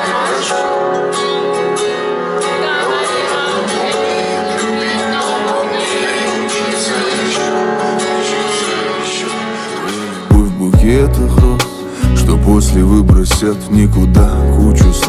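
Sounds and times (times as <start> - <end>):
guitar: 0.0 - 15.0
live pop song: 0.0 - 15.0
person singing: 0.0 - 15.0.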